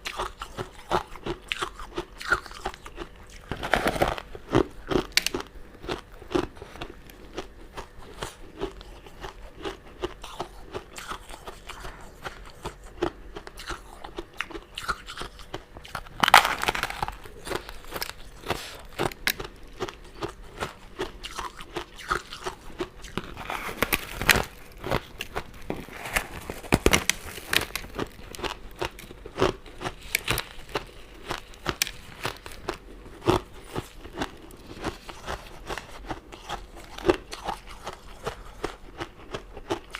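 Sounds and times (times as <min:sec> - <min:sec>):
chewing: 0:00.0 - 0:39.9
crunching candy: 0:00.0 - 0:39.9.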